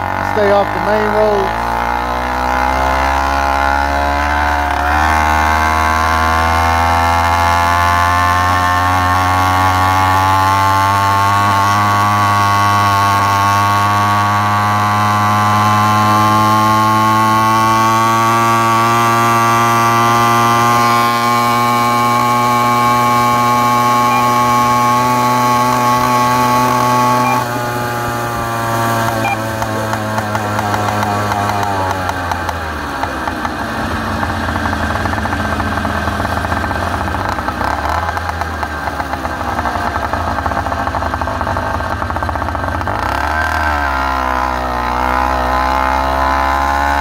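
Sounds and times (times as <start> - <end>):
small two-stroke engine running: 0.0 - 47.0.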